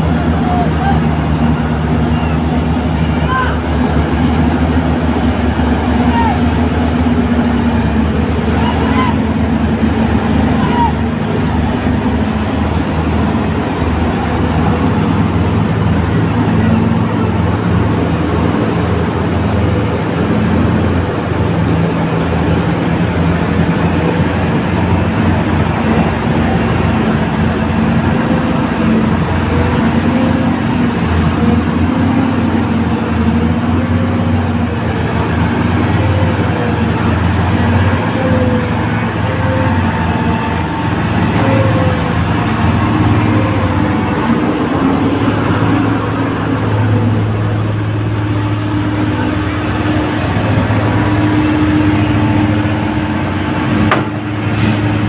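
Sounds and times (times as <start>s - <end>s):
truck diesel engines droning: 0.0s - 55.0s.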